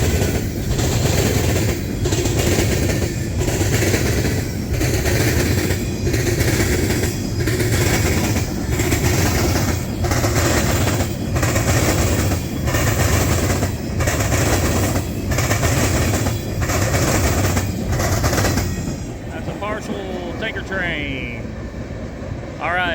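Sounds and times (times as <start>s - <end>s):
freight train cars rolling: 0.0s - 22.9s.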